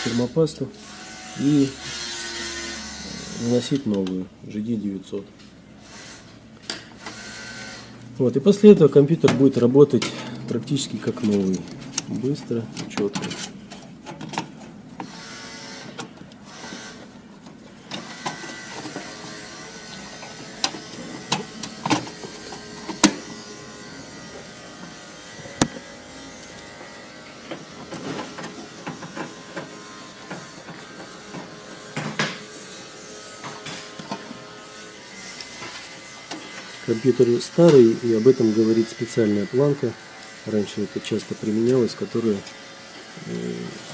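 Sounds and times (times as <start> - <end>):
faint mechanical hum: 0.0 - 43.9.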